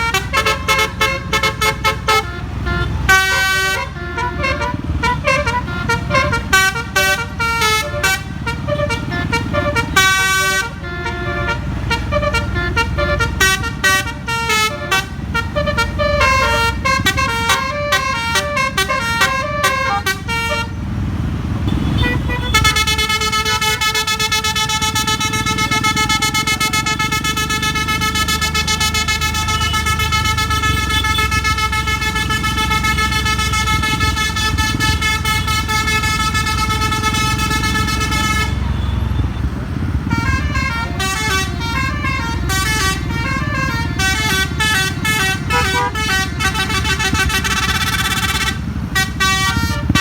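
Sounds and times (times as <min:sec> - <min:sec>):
bus musical air horn tune: 0:00.0 - 0:20.8, 0:21.7 - 0:50.0
engine and road rumble: 0:00.0 - 0:50.0.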